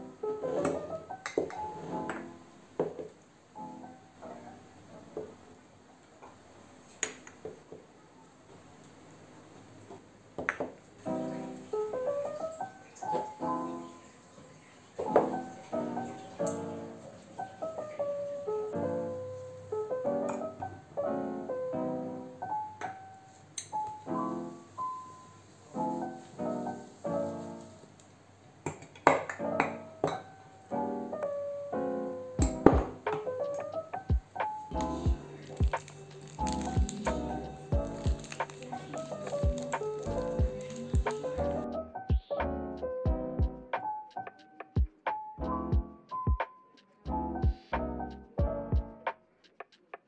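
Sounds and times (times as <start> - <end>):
soft piano music: 0.0 - 5.6, 9.7 - 49.4.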